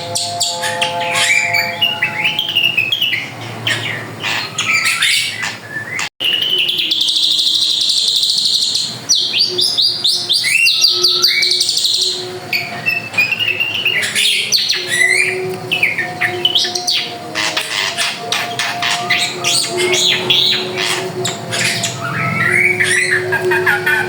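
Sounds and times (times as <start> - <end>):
bird singing varied song: 0.0 - 24.0.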